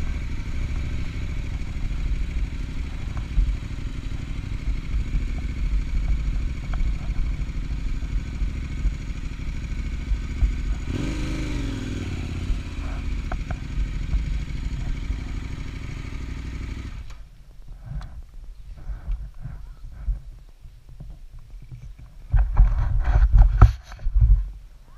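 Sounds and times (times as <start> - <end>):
motorcycle engine running: 0.0 - 20.3.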